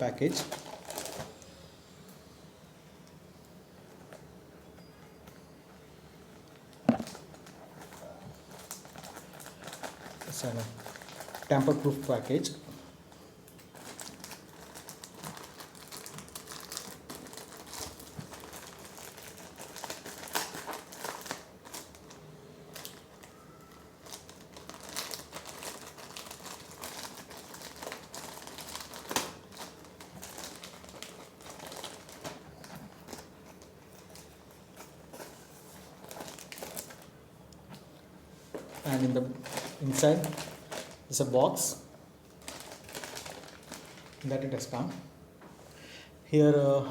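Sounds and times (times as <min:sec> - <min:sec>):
package crinkling and rustling: 0:00.3 - 0:01.5, 0:06.4 - 0:37.8, 0:38.4 - 0:41.2, 0:42.2 - 0:45.0.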